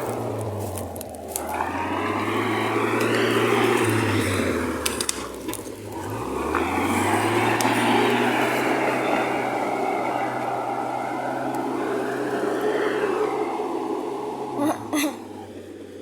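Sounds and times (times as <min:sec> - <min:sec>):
van engine under load: 0:00.0 - 0:16.0.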